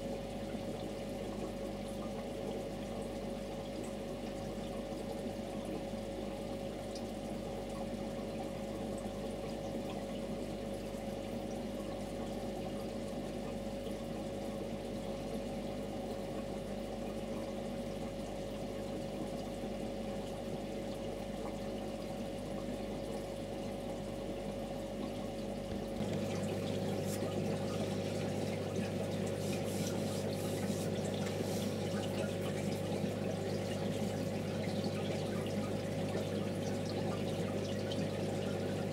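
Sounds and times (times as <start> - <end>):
pump motor hum: 0.0 - 38.9
water trickling: 0.0 - 38.9.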